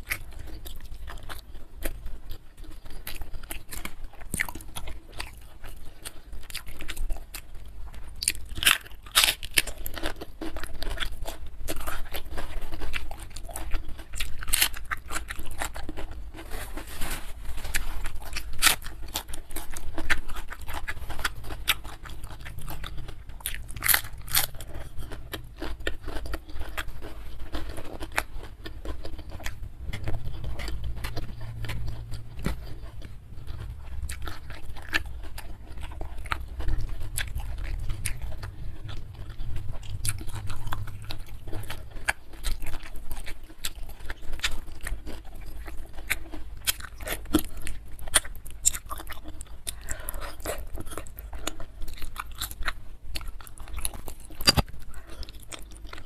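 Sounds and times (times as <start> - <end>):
crunching raw cabbage: 0.0 - 56.0
wet chewing: 0.0 - 56.0.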